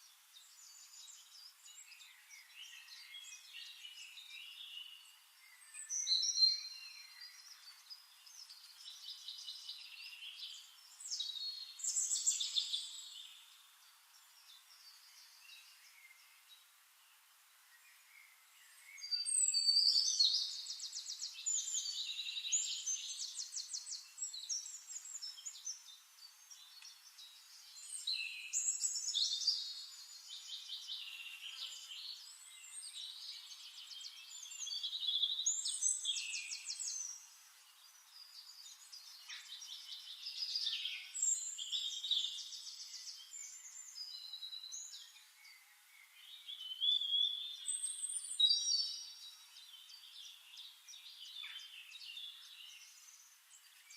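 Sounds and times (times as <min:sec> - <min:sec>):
songbird singing trills: 0:00.0 - 0:53.9.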